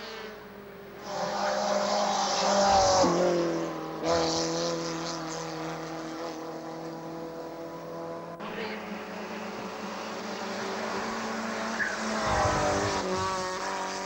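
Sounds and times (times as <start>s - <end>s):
race car engine revving: 1.0s - 14.0s.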